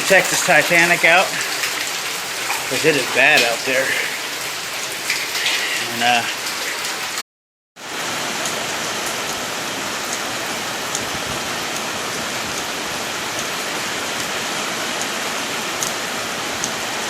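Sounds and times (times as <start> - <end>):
heavy rain pouring: 0.0 - 7.2, 7.8 - 17.0.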